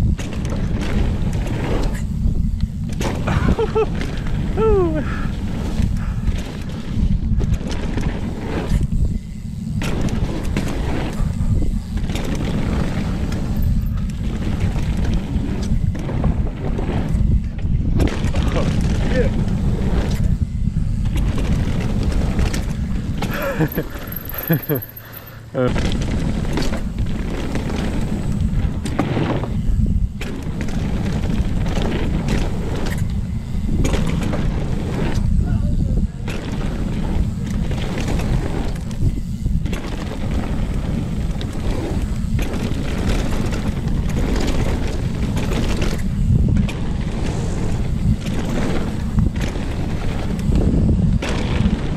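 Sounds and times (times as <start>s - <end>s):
wind buffeting microphone: 0.0s - 24.4s, 25.6s - 51.9s
bike clacking and rattling: 0.0s - 51.9s
tyres rumbling on dirt trail: 0.0s - 51.9s.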